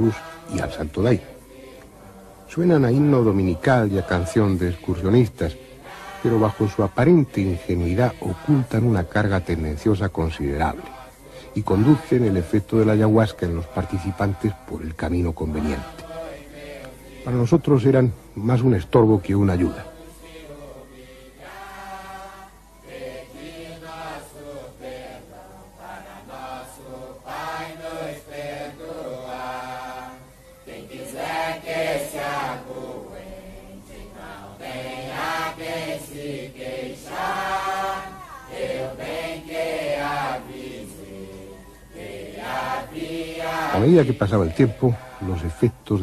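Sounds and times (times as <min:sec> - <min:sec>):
group singing a hymn: 0:00.0 - 0:46.0.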